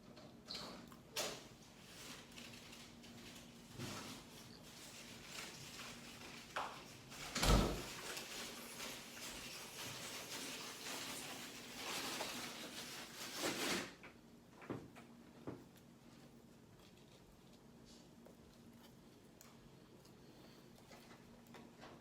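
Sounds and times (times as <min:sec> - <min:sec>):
rustling while eating: 0:00.0 - 0:22.0.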